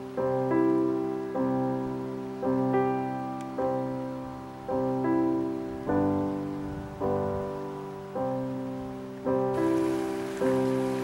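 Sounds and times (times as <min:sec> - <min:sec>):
slow solo piano chords: 0:00.0 - 0:11.0.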